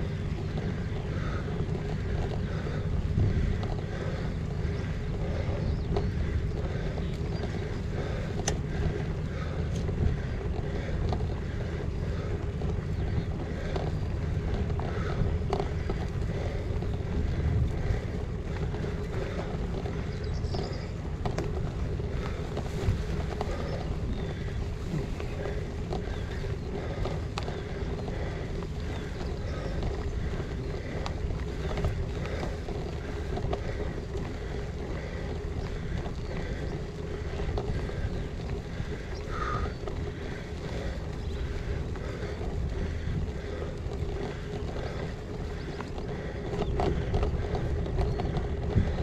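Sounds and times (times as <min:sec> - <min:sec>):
small clicks and rattles: 0:00.0 - 0:49.0
tyres rumbling on gravel: 0:00.0 - 0:49.0
wind buffeting microphone: 0:00.0 - 0:49.0.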